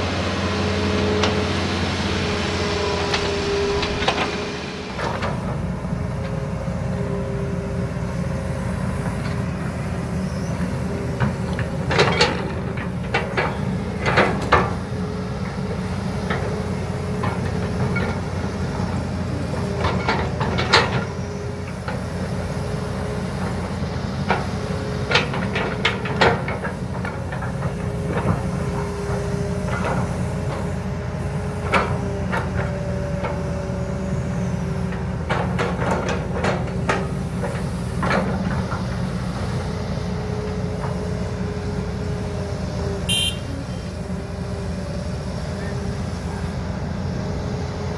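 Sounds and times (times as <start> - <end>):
excavator diesel engines under load: 0.0 - 47.9.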